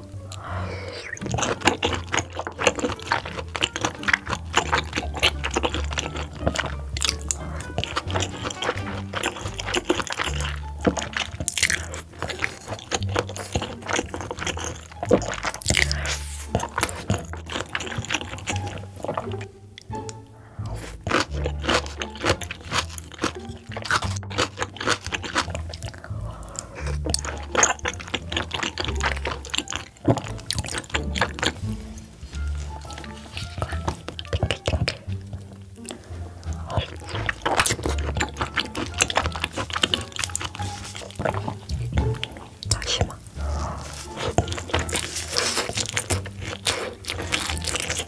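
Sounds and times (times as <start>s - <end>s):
background music with bass: 0.0s - 48.0s
close chewing and crunching: 0.0s - 48.0s.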